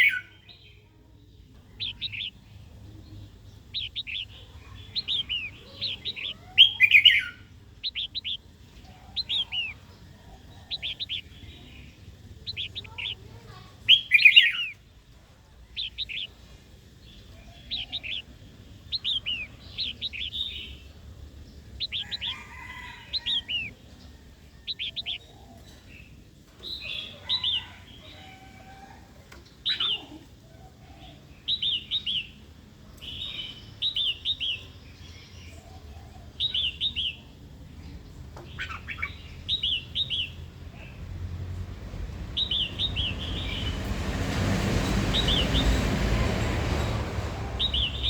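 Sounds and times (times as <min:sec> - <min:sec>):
bird chirping song: 0:00.0 - 0:48.0.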